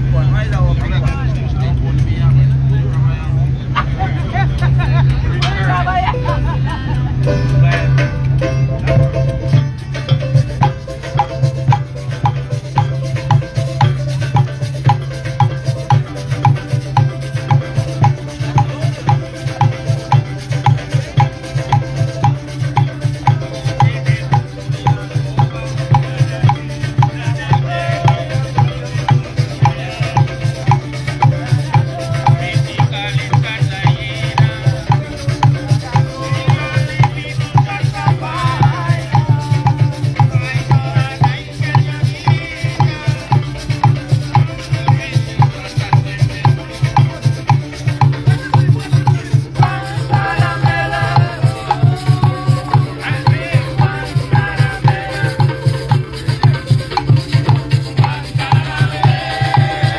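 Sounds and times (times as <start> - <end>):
drums: 3.8 - 59.9
shakers: 4.2 - 59.9
live band music: 4.6 - 59.9.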